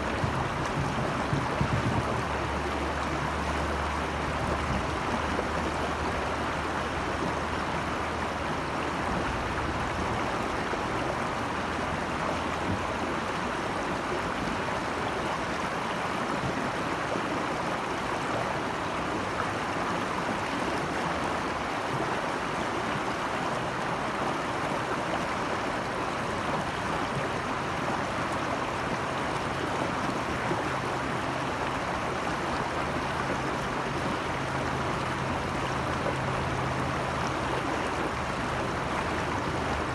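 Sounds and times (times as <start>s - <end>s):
rushing stream water: 0.0s - 39.9s.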